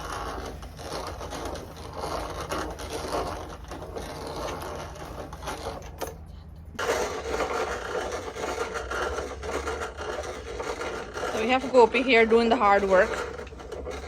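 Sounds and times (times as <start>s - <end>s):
hand grinder churning: 0.0s - 6.2s, 6.8s - 14.0s.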